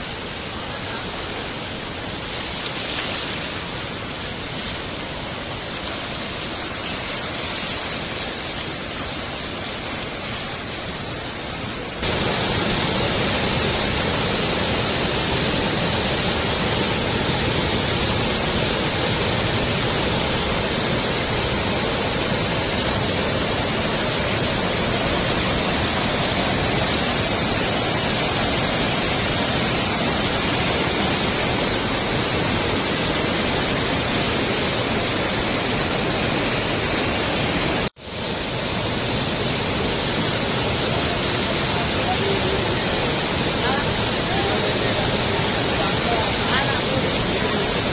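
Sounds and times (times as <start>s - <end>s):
turbulent river water rushing: 0.0s - 47.9s.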